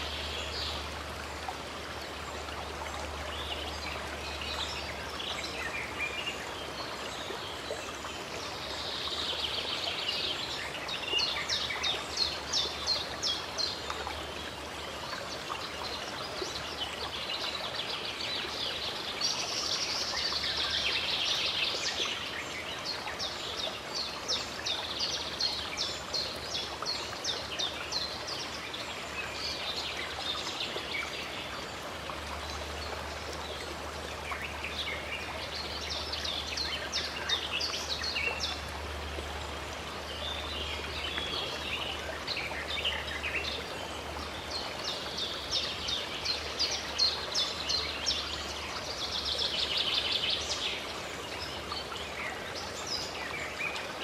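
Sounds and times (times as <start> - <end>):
running water: 0.0 - 54.0
songbirds singing: 0.0 - 54.0.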